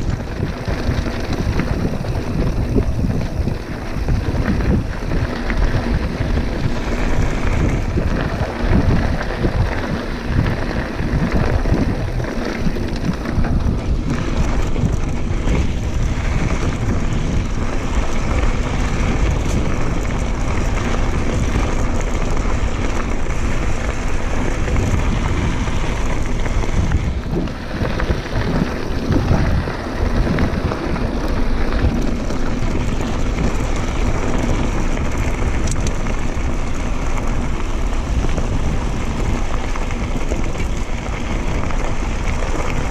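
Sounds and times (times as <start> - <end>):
bike rolling over dirt trail: 0.0 - 42.9
wind buffeting microphone: 0.0 - 42.9.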